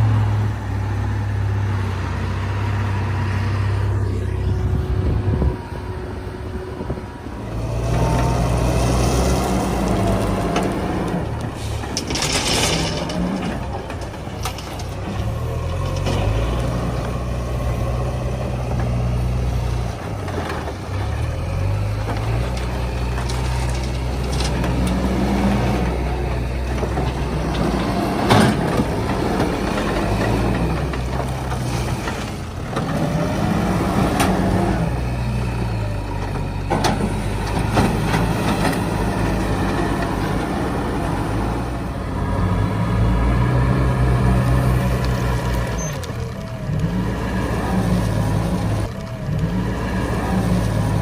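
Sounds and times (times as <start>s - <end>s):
diesel engine under load: 0.0s - 51.0s.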